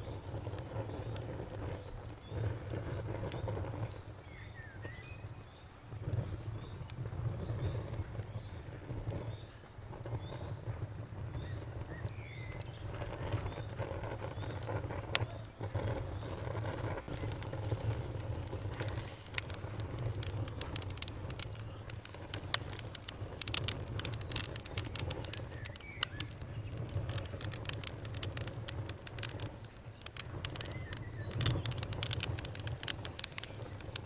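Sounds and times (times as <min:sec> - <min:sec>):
campfire crackling: 0:00.0 - 0:34.0
sharp pops: 0:06.0 - 0:34.0.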